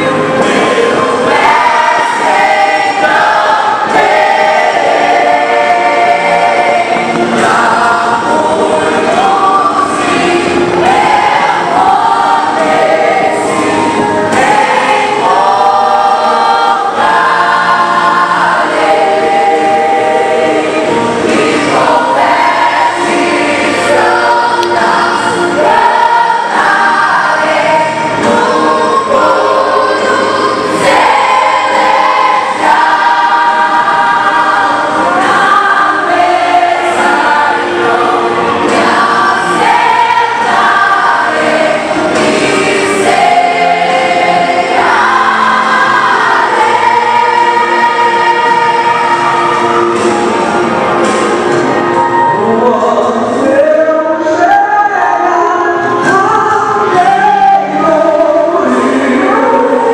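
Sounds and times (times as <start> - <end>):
choir singing a worship song: 0.0 - 59.9.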